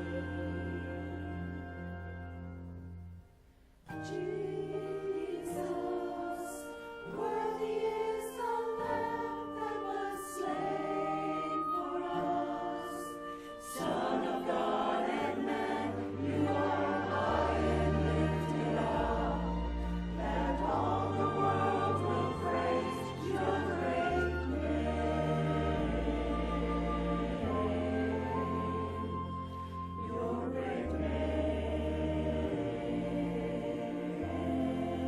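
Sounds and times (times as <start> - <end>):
choir singing a hymn: 0.0 - 2.7, 3.9 - 35.0
instrumental accompaniment: 0.0 - 35.0.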